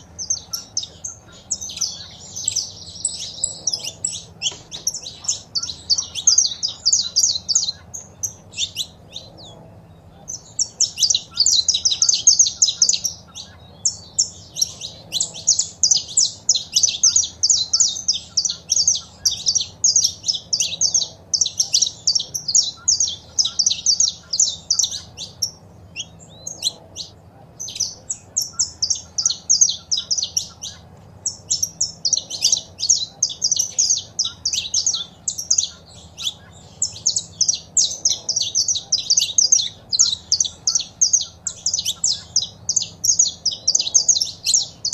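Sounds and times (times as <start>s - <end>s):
finch chirping: 0.0s - 44.9s.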